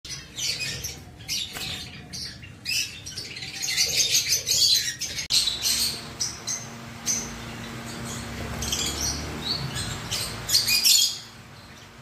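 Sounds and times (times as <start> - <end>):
lovebirds chirping and squawking: 0.1 - 12.0.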